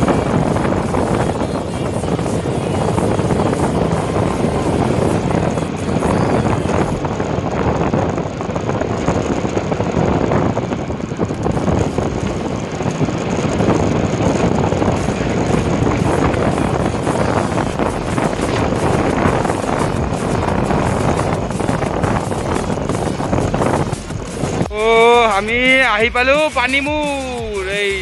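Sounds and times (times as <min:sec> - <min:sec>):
vehicle rushing noise: 0:00.0 - 0:28.0.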